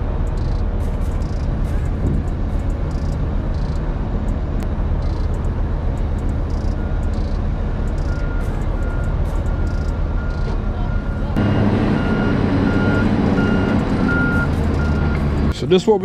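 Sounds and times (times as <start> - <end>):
diesel machinery running: 0.0 - 16.0
truck engine idling: 0.0 - 16.0
faint intermittent beeping: 0.2 - 15.2.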